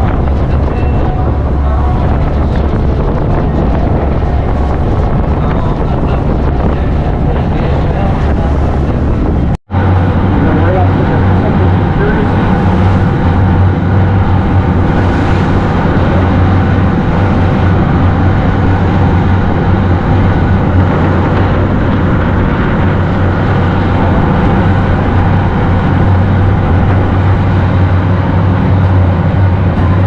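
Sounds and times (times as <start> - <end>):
boat engines droning: 0.0 - 30.0.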